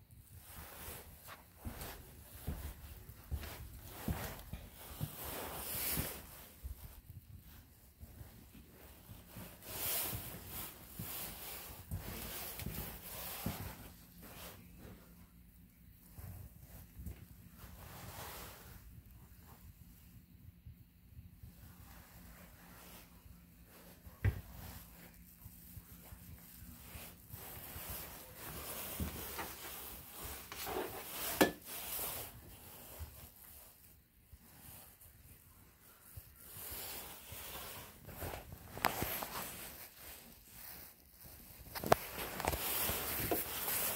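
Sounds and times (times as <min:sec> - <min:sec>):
soft footsteps: 0:00.0 - 0:43.9.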